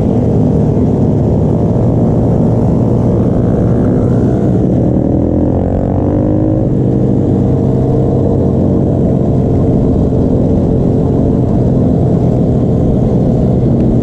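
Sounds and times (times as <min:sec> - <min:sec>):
small motorbike engines cruising: 0:00.0 - 0:14.0.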